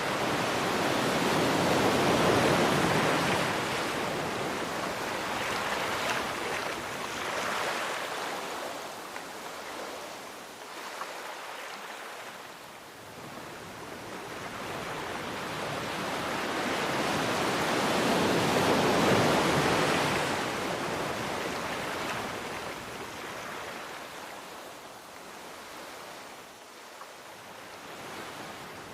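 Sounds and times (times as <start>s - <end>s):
sea waves breaking on shore: 0.0s - 28.9s.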